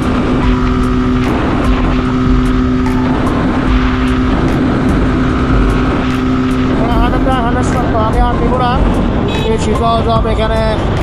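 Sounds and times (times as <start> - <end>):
motorcycle engine steady note: 0.0 - 11.0
wind rumble on microphone: 0.0 - 11.0.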